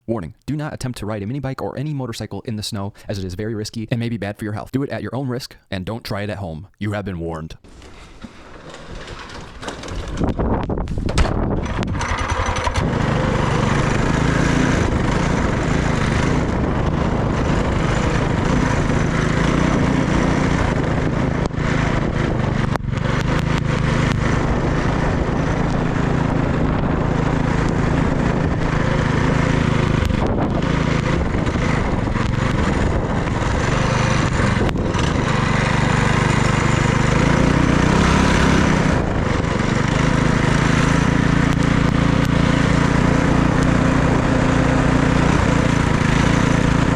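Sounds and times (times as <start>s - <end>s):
minibike engine running: 8.3s - 46.9s.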